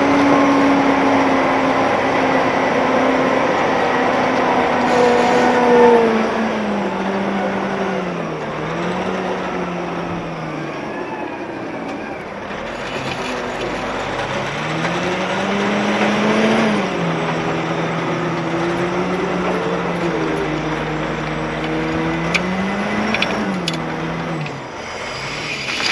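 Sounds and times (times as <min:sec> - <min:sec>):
wheel loader diesel engine revving: 0:00.0 - 0:25.9.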